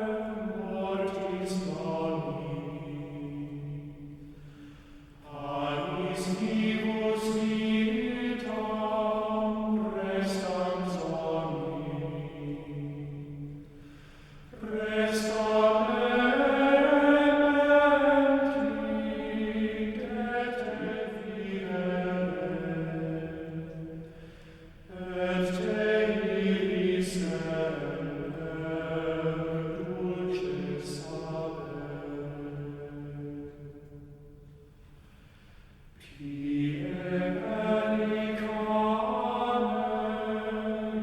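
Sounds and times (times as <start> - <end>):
liturgical chant: 0.0 - 35.3, 35.9 - 41.0.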